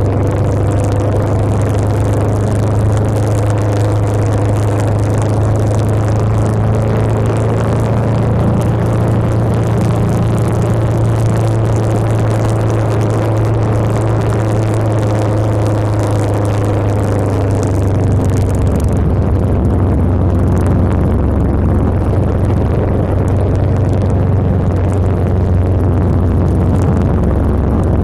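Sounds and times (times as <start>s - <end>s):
motorcycle engine cruising: 0.0s - 28.0s
wind noise: 0.0s - 28.0s.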